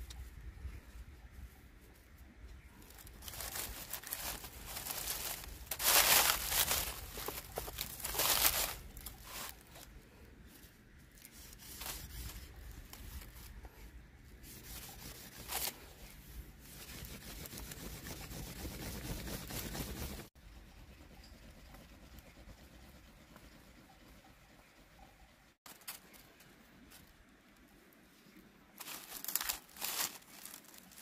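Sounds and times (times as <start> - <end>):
dry leaves and sticks rustling: 0.1 - 20.3, 25.7 - 31.0.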